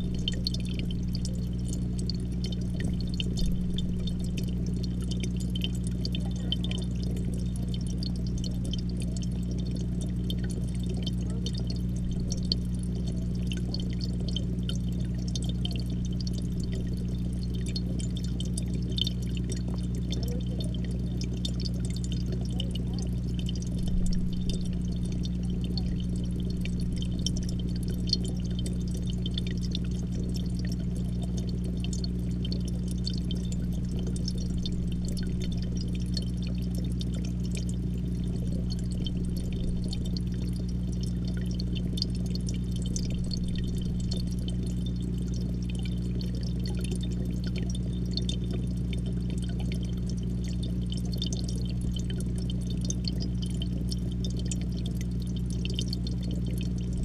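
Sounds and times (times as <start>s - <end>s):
air bubbles crackling underwater: 0.0s - 57.0s
aquarium pump humming: 0.0s - 57.0s.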